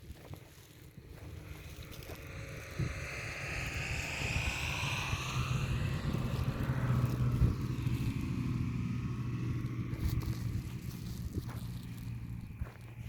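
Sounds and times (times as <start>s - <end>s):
motor engine passing by: 0.0s - 13.0s.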